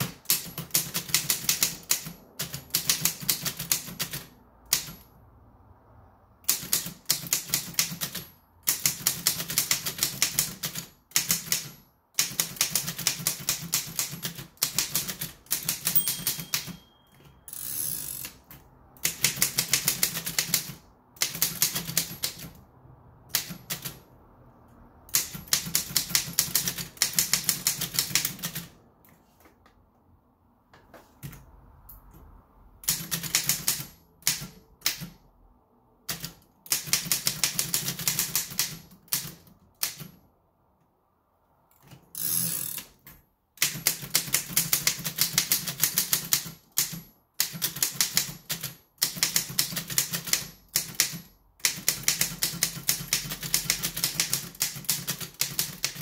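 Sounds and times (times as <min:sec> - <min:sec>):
typewriter typing: 0:00.0 - 0:05.1, 0:06.4 - 0:22.6, 0:23.3 - 0:24.1, 0:25.1 - 0:28.8, 0:32.8 - 0:35.2, 0:36.0 - 0:40.2, 0:41.8 - 0:56.0.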